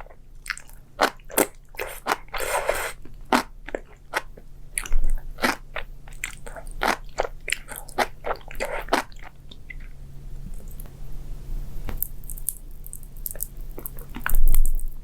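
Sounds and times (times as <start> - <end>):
person chewing crunchy food: 0.0 - 10.9, 11.8 - 15.0.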